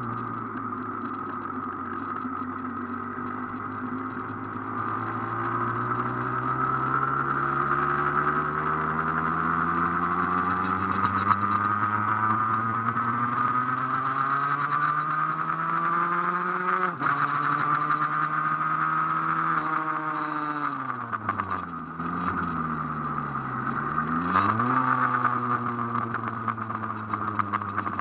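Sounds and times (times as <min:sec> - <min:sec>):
motorcycle two-stroke engine accelerating: 0:00.0 - 0:28.0.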